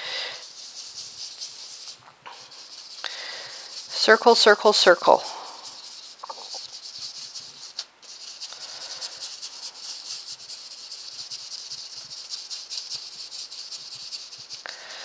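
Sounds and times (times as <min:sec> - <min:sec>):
paintbrush scratching on paper: 0:00.0 - 0:14.7.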